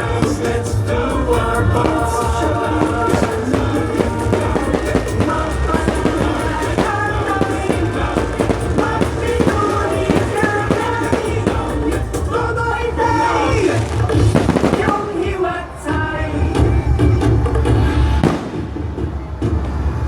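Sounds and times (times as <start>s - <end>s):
pop song with vocals: 0.0s - 18.5s.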